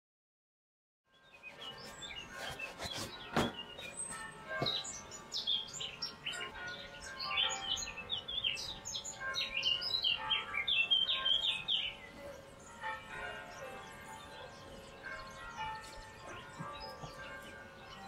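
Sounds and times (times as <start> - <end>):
small birds chirping: 1.1 - 18.0.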